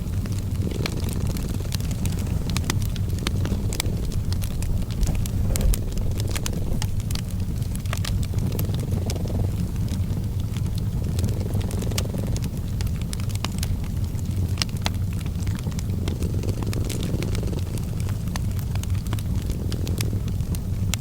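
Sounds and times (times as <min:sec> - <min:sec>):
cat purring: 0:00.0 - 0:21.0
fireplace crackling: 0:00.0 - 0:21.0.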